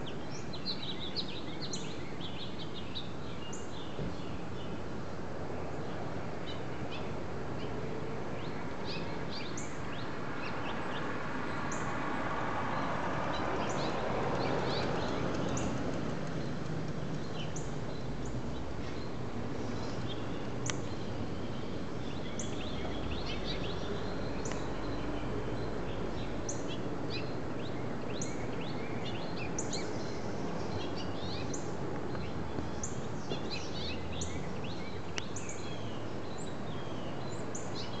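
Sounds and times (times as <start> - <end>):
small birds chirping: 0.0 - 4.9, 5.7 - 38.0
outdoor background noise: 0.0 - 38.0.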